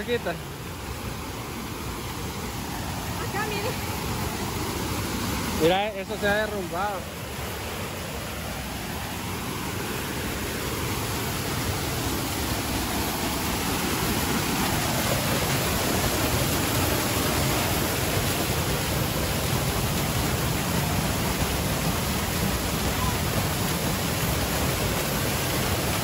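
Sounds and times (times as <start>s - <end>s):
waterfall rushing water: 0.0s - 26.0s.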